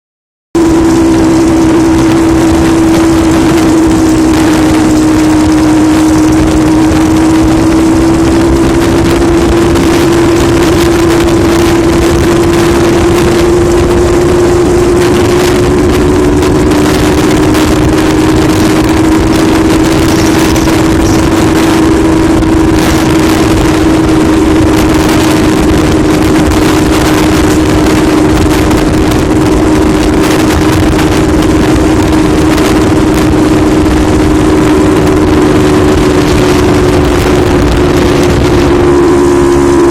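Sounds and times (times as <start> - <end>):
two-stroke motorcycle engine running: 0.6 - 39.9.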